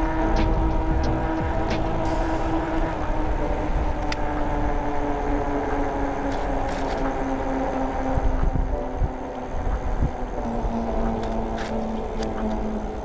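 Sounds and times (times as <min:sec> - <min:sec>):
tyre and wind rumble: 0:00.0 - 0:13.0.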